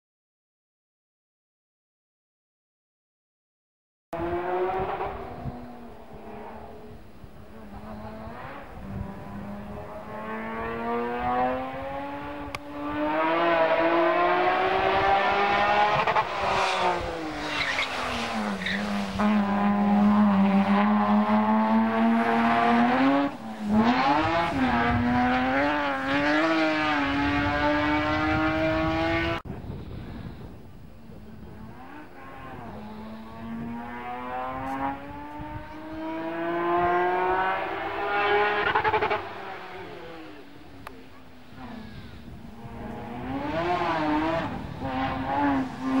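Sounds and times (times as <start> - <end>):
race car engine at full throttle: 4.2 - 46.0.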